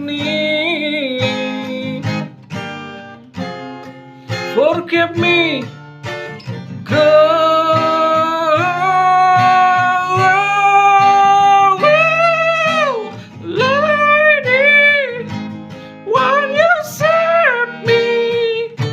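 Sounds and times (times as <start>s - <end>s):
strummed acoustic guitar: 0.0s - 18.9s.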